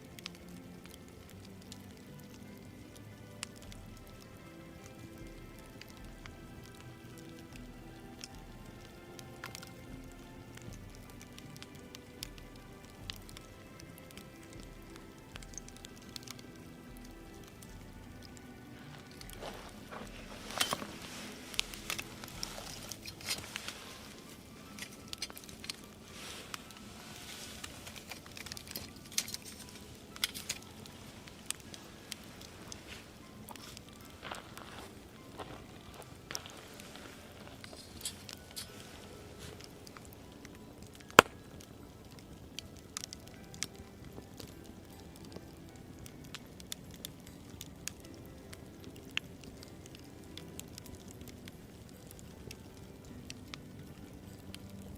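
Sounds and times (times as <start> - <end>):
faint music: 0.0 - 54.9
soft steady hiss: 0.0 - 54.9
wood fire crackling: 0.0 - 54.9.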